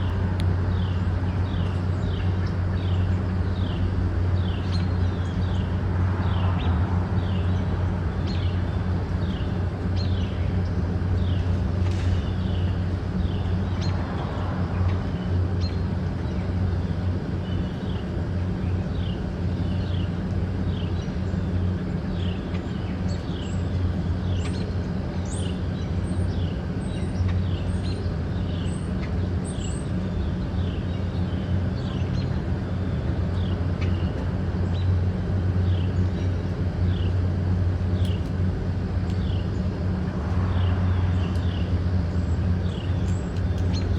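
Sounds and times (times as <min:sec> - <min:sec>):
low mechanical hum: 0:00.0 - 0:43.9.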